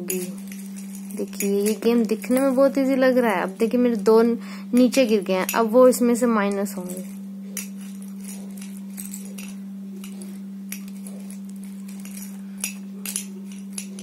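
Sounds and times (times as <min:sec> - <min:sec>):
metal spoon clinking in glass jar: 0:00.0 - 0:03.0, 0:04.8 - 0:05.7, 0:06.5 - 0:14.0
steady low hum: 0:00.0 - 0:14.0.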